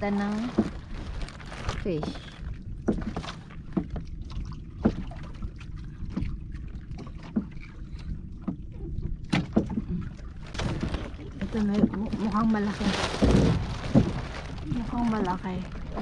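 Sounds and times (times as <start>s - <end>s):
low rumble: 0.0s - 16.0s
splashes and knocks: 0.0s - 16.0s
water sloshing against boat: 0.0s - 16.0s.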